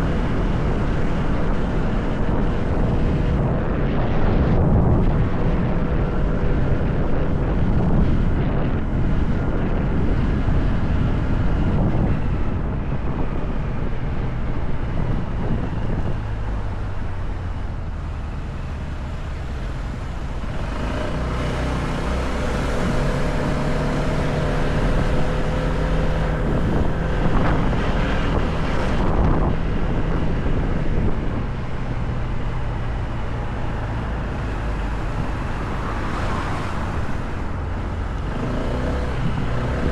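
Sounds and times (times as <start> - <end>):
motorcycle engine running: 0.0 - 35.3
wind rushing over microphone: 0.0 - 39.9.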